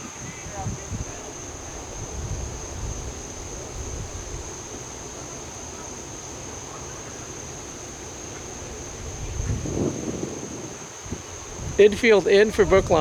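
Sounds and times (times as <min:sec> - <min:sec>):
high-pitched insect drone: 0:00.0 - 0:13.0
wind rumbling on microphone: 0:00.0 - 0:13.0.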